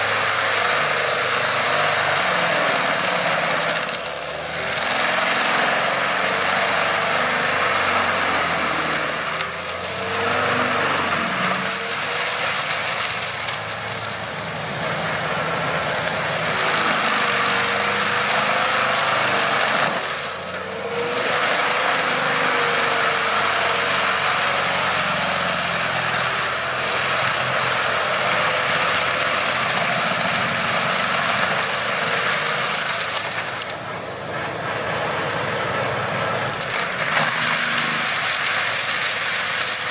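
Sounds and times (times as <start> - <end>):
forestry mulcher grinding wood: 0.0 - 39.9
tractor engine under load: 0.0 - 39.9.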